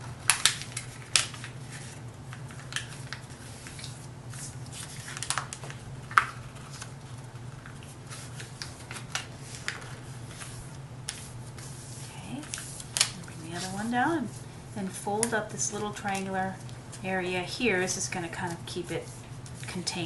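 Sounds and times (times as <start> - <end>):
paper crackling and rustling: 0.0 - 20.0
steady low hum: 0.0 - 20.0.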